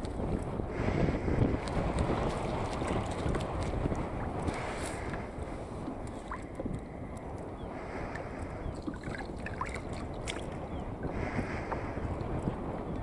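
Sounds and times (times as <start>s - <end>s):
water rumbling: 0.0s - 13.0s
wind: 0.0s - 13.0s.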